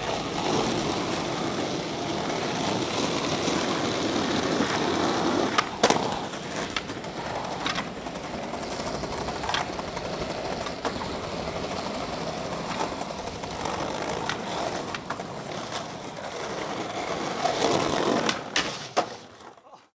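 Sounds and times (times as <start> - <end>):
skateboard clacks: 0.0 - 19.7
skateboard wheels rolling: 0.0 - 19.9.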